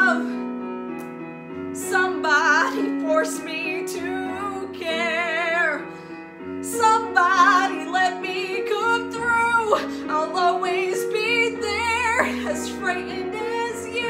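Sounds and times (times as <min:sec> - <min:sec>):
woman singing a ballad: 0:00.0 - 0:00.6, 0:01.8 - 0:14.0.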